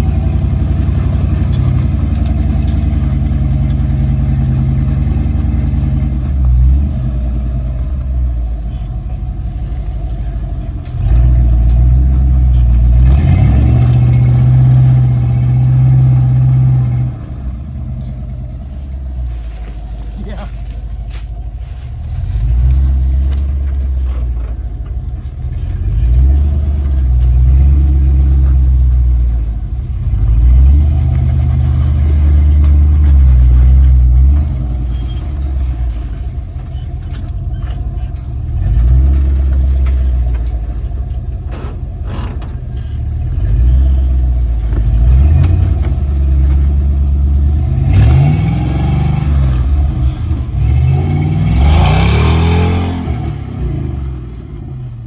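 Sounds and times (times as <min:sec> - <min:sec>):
off-road truck engine revving: 0:00.0 - 0:55.0.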